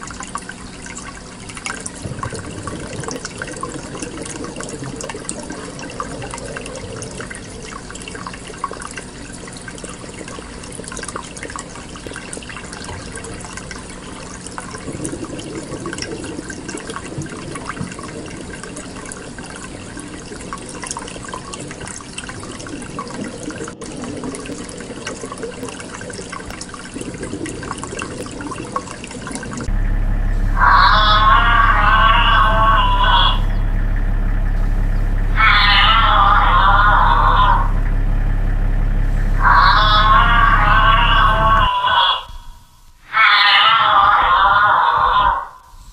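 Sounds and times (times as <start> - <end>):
running splashing water: 0.0 - 41.8.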